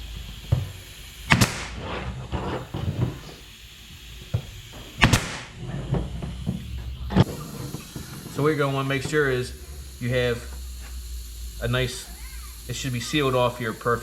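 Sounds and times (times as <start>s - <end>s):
pneumatic nailer firing: 0.0s - 14.0s.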